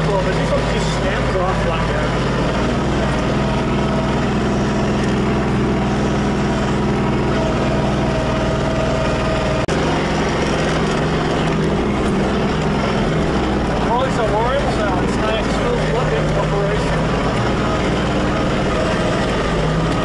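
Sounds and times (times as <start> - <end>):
steady whine: 0.0 - 20.0
tractor engine running: 0.0 - 20.0.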